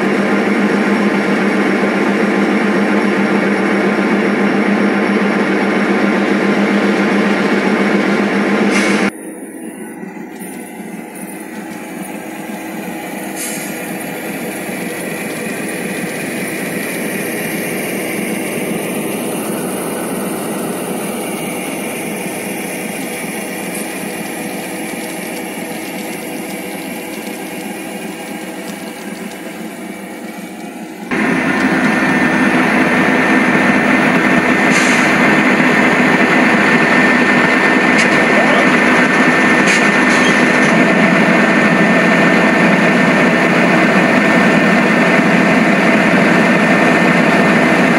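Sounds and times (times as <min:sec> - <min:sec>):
louder brighter engine sound: 0:00.0 - 0:47.9
model locomotive engine sound: 0:00.0 - 0:47.9.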